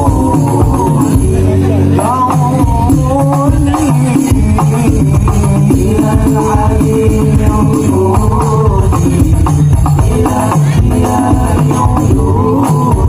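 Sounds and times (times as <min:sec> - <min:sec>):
frame drums and tambourines: 0:00.0 - 0:13.0
sung melody: 0:00.0 - 0:13.0.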